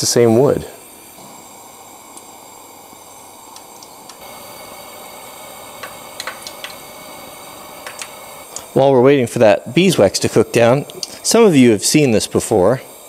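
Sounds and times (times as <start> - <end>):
camp stove burner hissing: 0.0 - 13.0.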